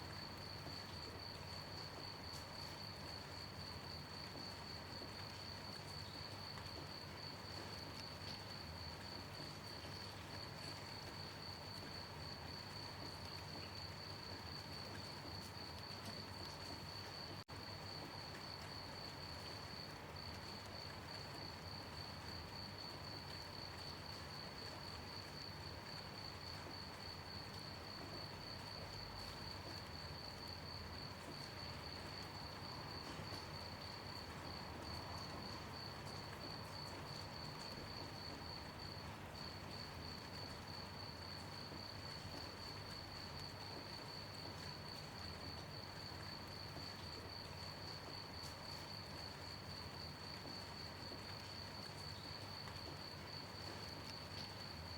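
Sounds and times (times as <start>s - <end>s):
crickets chirping: 0.1s - 54.9s.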